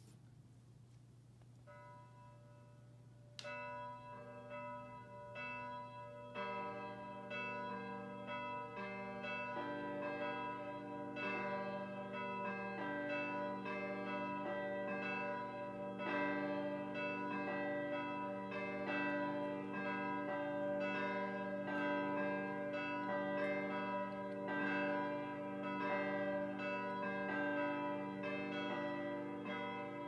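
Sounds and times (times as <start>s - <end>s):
electronic church bells pealing: 1.7s - 30.0s.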